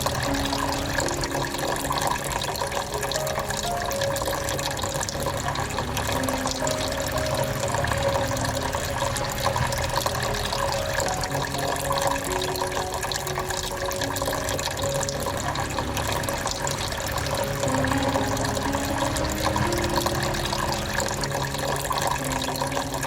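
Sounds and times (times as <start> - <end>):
fountain water falling into basin: 0.0 - 23.0.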